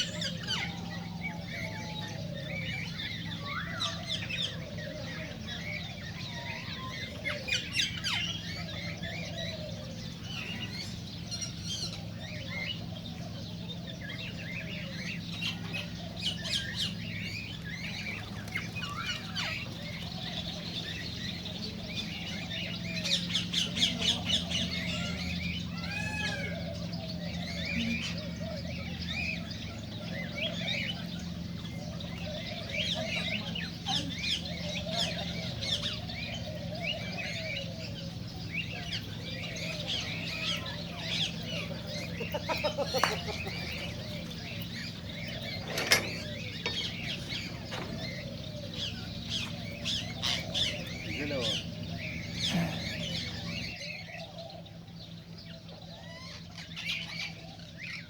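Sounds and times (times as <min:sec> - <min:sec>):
cockatiels chirping and squawking: 0:00.0 - 0:58.0
low warbling bird calls: 0:00.0 - 0:58.0.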